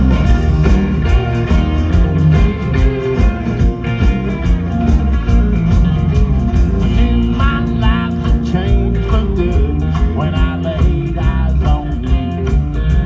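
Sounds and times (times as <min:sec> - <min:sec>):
country band playing: 0:00.0 - 0:13.0.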